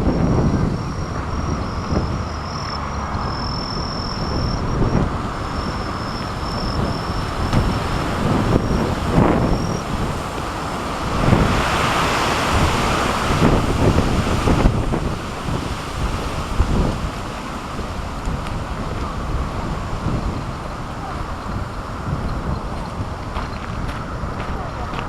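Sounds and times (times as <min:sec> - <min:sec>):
strong wind buffeting microphone: 0:00.0 - 0:25.0.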